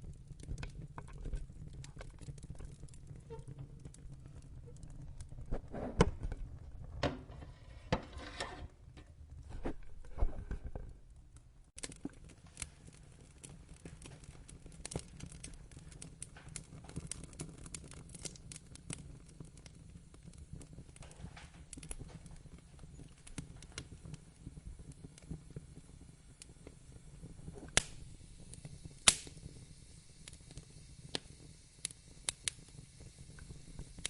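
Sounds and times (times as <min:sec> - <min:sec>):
fire popping: 0:00.0 - 0:34.0
wood fire crackling: 0:00.0 - 0:34.0.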